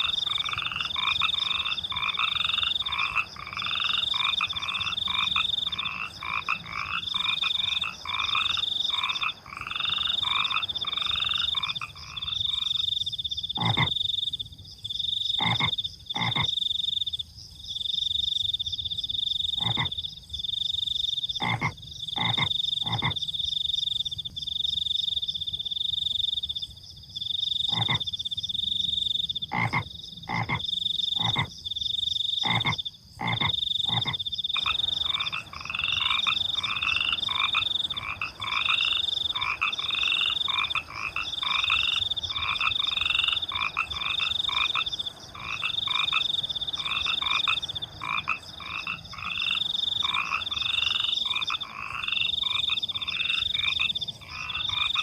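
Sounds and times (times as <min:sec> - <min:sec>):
crickets chirping trill: 0:00.0 - 0:55.0
frogs croaking: 0:00.0 - 0:55.0.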